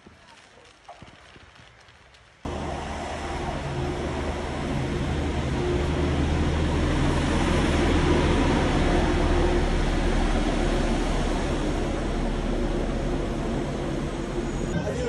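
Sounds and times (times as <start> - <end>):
traffic noise: 2.5 - 15.0
truck engine droning: 2.5 - 15.0.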